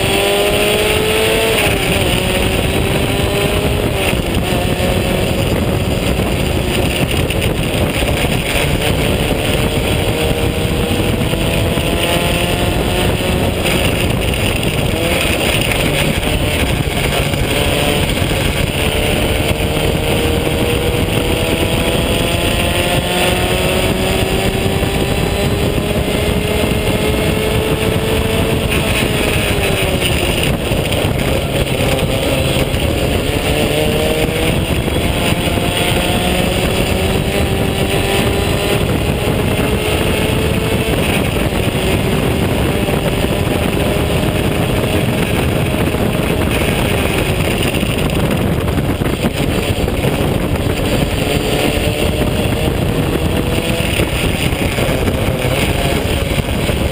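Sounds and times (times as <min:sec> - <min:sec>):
race car engine accelerating: 0:00.0 - 0:56.9
wind rush at microphone: 0:00.0 - 0:56.9.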